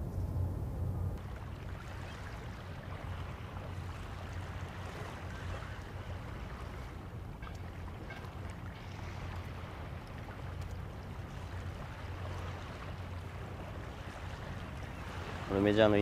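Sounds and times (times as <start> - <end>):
low hum: 0.0 - 15.4
water wash: 1.2 - 16.0.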